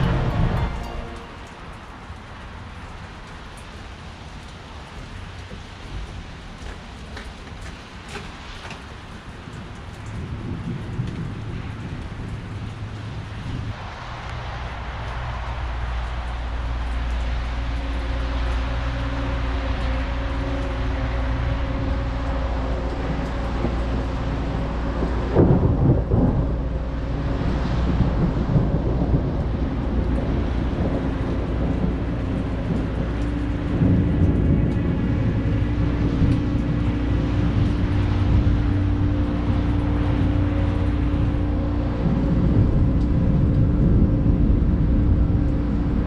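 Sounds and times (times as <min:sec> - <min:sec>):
rolling thunder: 0:00.0 - 0:02.2, 0:10.1 - 0:46.0
low droning hum: 0:00.0 - 0:03.7, 0:09.8 - 0:46.0.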